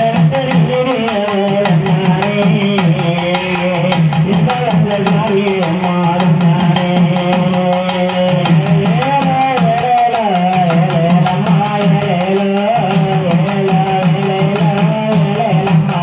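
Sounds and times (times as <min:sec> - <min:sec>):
loud folk dance music: 0:00.0 - 0:16.0
steady drum beat: 0:00.0 - 0:16.0.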